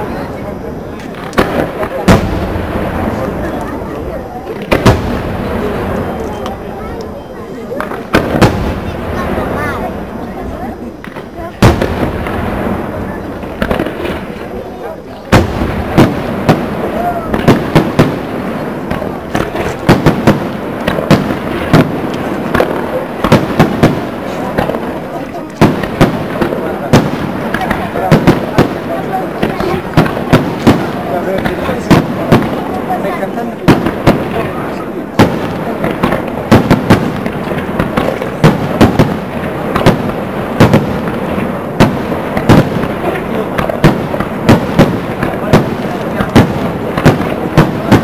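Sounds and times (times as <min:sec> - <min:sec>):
firework shells bursting: 0:00.9 - 0:07.1, 0:11.0 - 0:14.7, 0:15.3 - 0:48.0.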